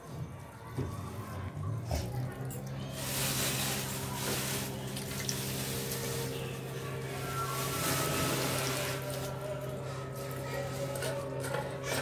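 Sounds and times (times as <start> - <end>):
hands squeezing wet vegetables: 2.2 - 12.0.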